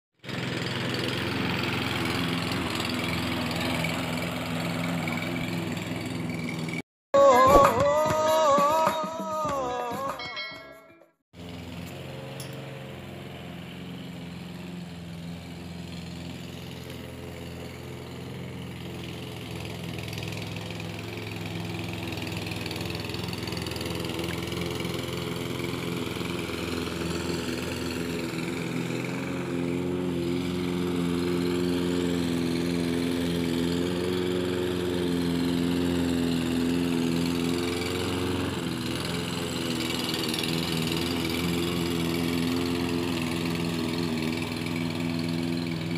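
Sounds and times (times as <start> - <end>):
lawn mower engine cutting grass: 0.2 - 8.5, 11.4 - 45.9.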